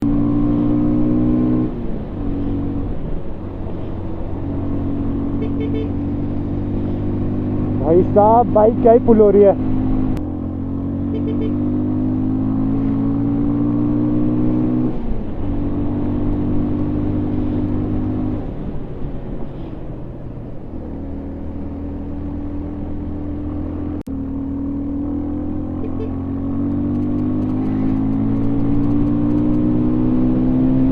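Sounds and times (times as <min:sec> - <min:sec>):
motorcycle engine revving: 0:00.0 - 0:18.4, 0:20.9 - 0:30.9.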